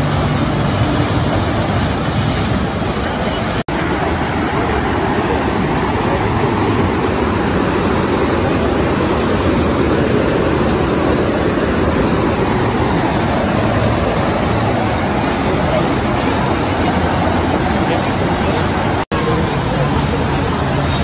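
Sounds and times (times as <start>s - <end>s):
water rushing loudly: 0.0s - 21.0s.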